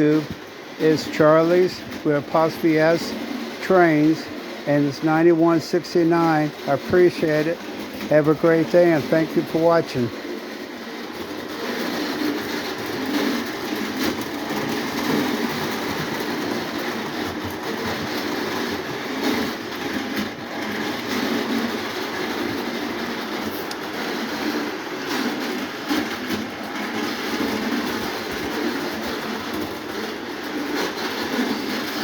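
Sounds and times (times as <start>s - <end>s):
toy train motors whirring: 0.0s - 32.0s.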